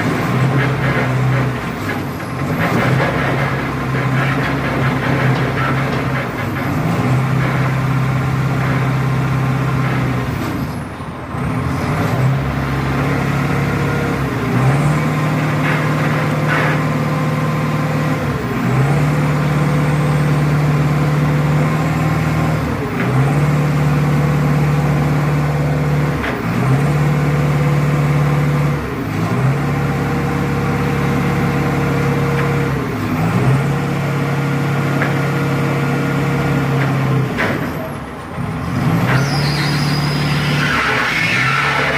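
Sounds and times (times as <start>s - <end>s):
diesel engine running hard: 0.0s - 41.9s.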